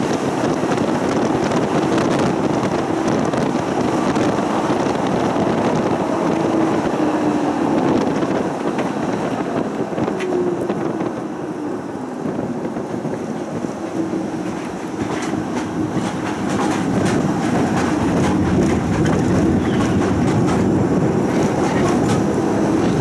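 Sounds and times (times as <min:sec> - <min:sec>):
tram wheels rumbling on track: 0:00.0 - 0:23.0.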